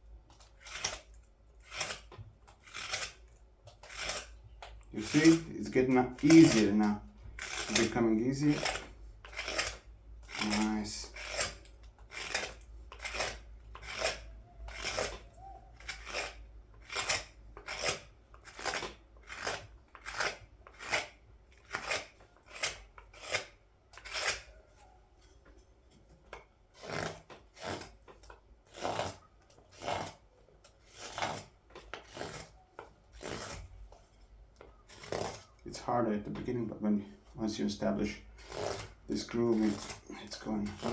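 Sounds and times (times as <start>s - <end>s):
scorp scraping wood: 0.3s - 24.6s, 26.7s - 35.8s, 37.4s - 40.9s.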